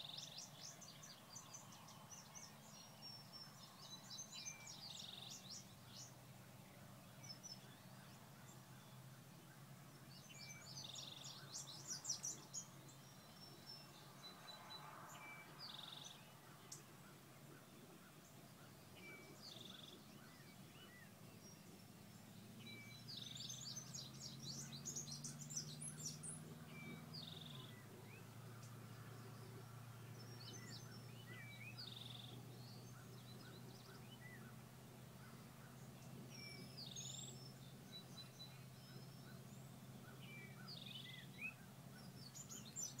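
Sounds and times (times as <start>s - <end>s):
songbirds singing: 0.0s - 43.0s.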